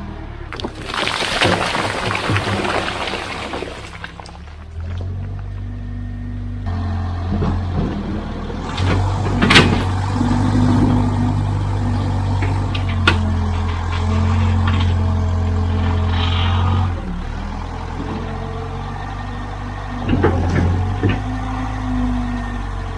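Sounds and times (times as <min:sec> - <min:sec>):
loader engine running under load: 0:00.0 - 0:22.9.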